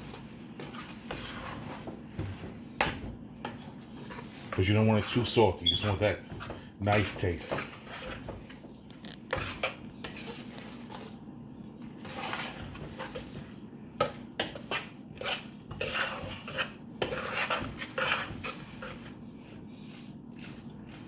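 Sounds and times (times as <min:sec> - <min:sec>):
utensil scraping a pan: 0:00.0 - 0:11.3, 0:12.0 - 0:21.0.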